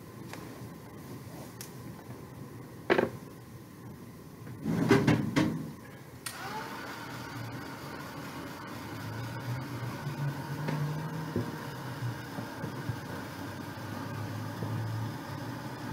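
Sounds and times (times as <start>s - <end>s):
heat tool fan whirring: 0.0s - 15.9s.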